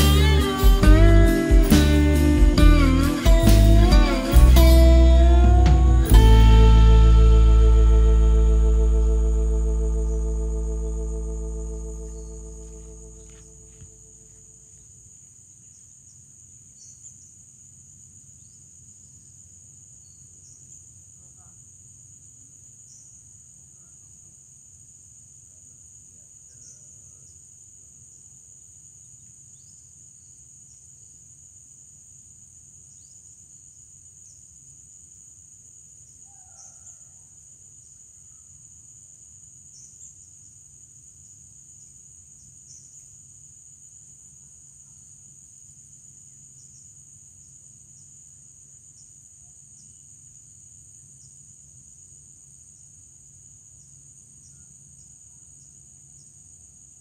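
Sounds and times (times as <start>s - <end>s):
high-pitched insect chorus: 0.0s - 57.0s
louder insect call: 0.0s - 57.0s.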